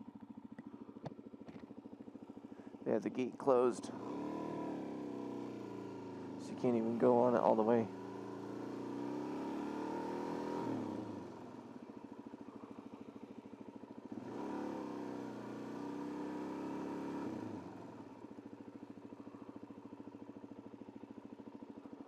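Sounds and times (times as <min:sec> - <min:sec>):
motorcycle engine revving and idling: 0:00.0 - 0:22.0.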